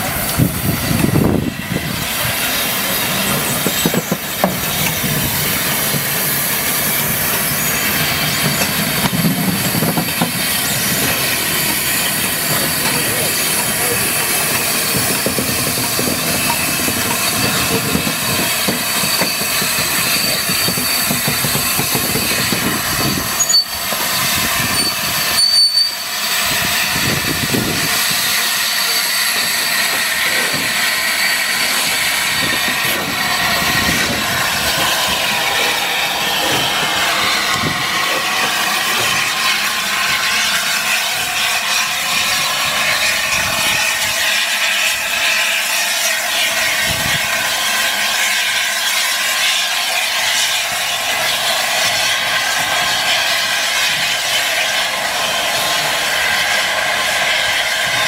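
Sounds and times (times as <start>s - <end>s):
steam locomotive wheels on rails: 0.0s - 58.0s.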